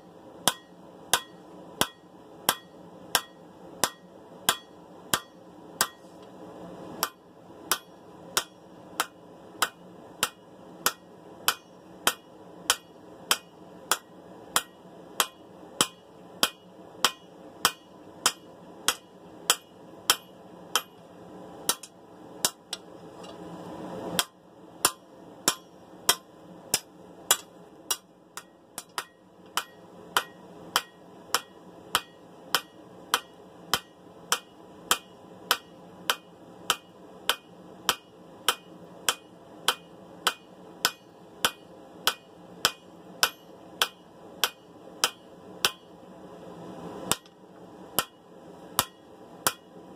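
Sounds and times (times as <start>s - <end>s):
hammer striking anvil: 0.5s - 6.0s, 7.0s - 21.0s, 21.7s - 22.6s, 24.2s - 45.9s, 47.1s - 47.3s, 48.8s - 49.7s.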